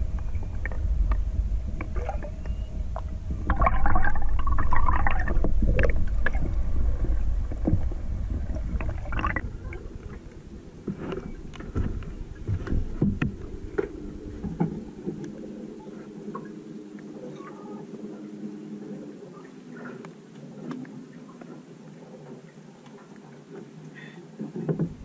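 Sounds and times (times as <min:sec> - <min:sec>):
underwater rumble and gurgling: 0:00.0 - 0:25.0.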